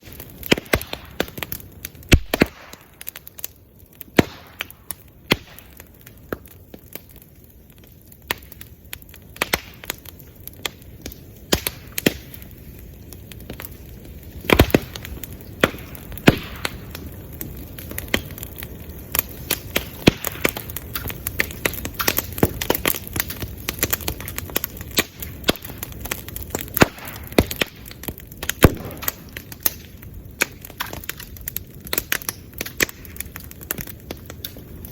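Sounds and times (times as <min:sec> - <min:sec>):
bamboo popping in fire: 0:00.0 - 0:34.9
bonfire crackling: 0:00.0 - 0:34.9.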